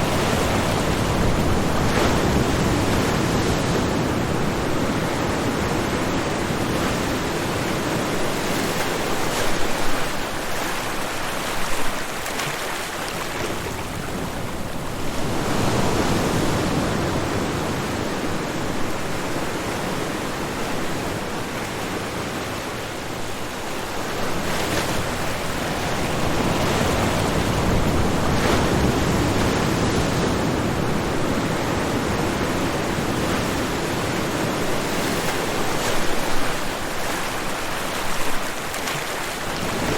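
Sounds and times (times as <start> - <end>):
ocean surf washing onto shore: 0.0 - 39.9.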